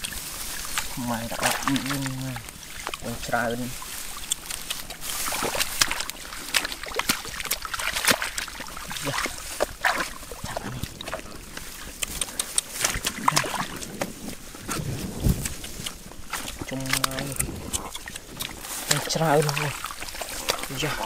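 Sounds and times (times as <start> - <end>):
dry stalks rustling and crackling: 0.0 - 21.0
small splashes of muddy water: 0.0 - 21.0.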